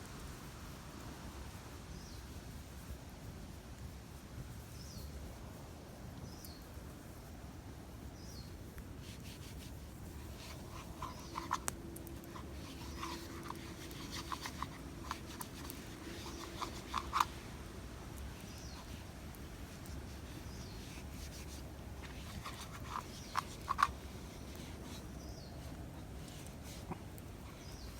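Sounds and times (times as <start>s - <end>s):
sharp crackles and snaps: 0.0s - 27.9s.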